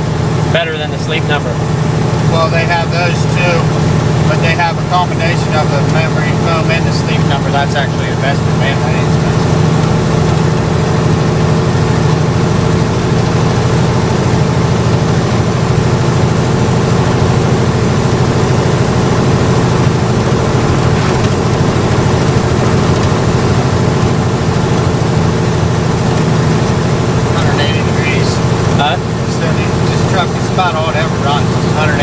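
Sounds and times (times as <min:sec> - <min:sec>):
road noise: 0:00.0 - 0:32.0
truck diesel engine running: 0:00.0 - 0:32.0.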